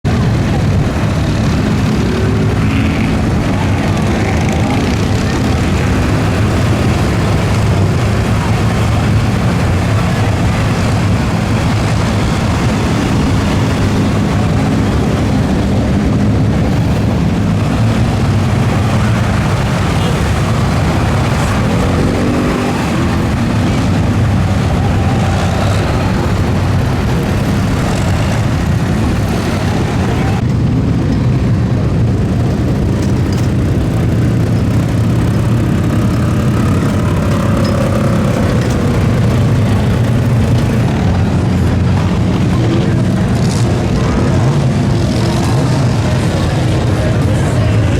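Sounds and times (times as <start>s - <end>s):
truck engines running: 0.0s - 47.9s.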